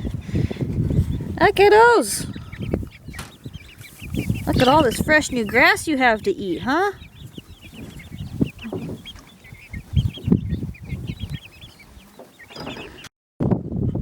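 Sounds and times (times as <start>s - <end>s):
chickens clucking: 0.0s - 13.1s.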